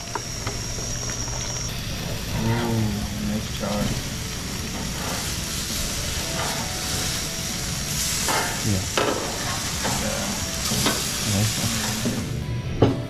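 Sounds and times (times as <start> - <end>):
fish sizzling on a grill: 0.0 - 12.4.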